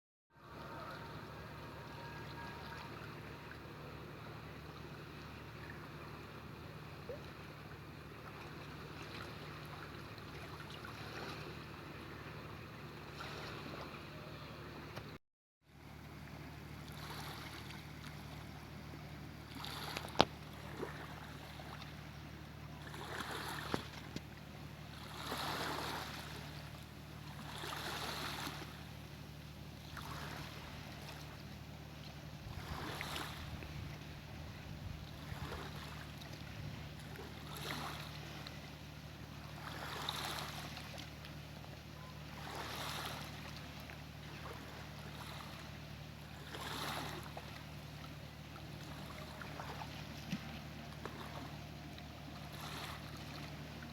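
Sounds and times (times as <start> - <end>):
low motor hum: 0.3 - 53.9
small waves splashing: 0.4 - 15.2, 15.8 - 53.9.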